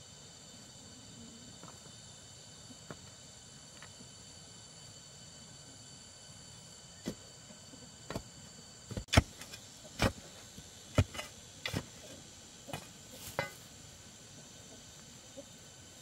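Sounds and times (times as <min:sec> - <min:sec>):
faint high-pitched hum: 0:00.0 - 0:16.0.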